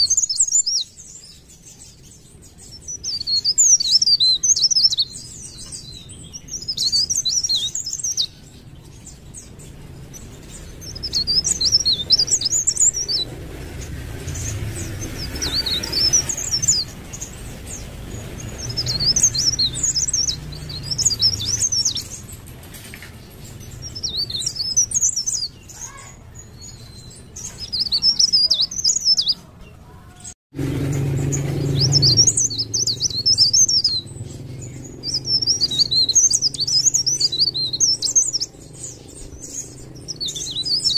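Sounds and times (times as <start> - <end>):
warbler singing: 0.0 - 40.9.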